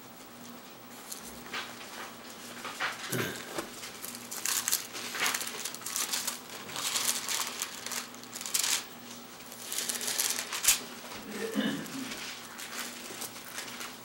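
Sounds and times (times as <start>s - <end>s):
book pages rustling: 1.0s - 14.0s.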